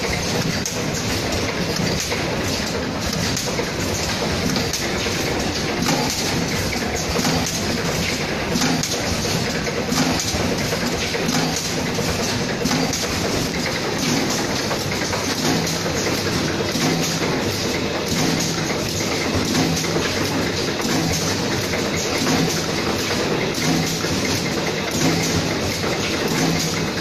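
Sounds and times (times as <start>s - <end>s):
packing machine clattering: 0.0s - 27.0s.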